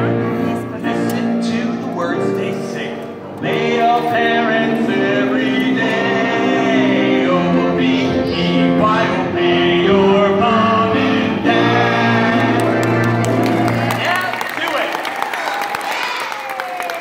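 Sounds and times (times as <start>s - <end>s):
children's choir singing: 0.0s - 13.8s
musical accompaniment: 0.0s - 14.8s.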